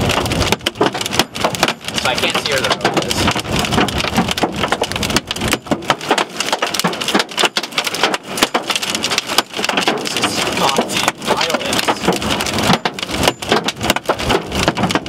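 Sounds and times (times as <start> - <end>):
storm noise: 0.0 - 6.5, 9.0 - 15.0
hail pelting car: 0.0 - 15.0.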